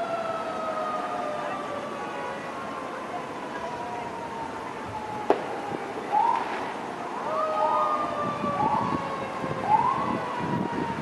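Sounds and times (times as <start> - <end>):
emergency vehicle siren whooping: 0.0 - 11.0.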